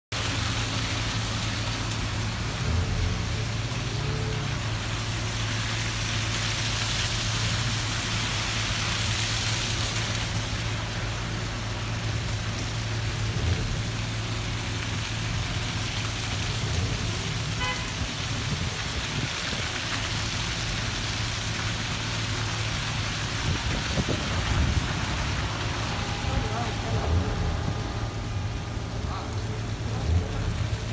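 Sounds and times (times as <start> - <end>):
engine hum: 0.1 - 30.9.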